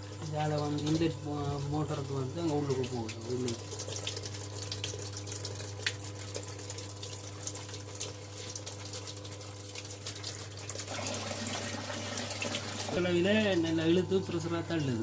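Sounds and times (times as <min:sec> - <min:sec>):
electric pump humming: 0:00.0 - 0:15.0
water splashing and trickling: 0:00.0 - 0:15.0.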